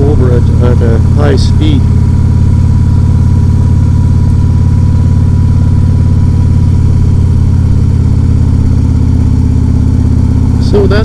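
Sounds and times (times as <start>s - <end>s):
motorcycle trike engine running: 0.0s - 11.0s.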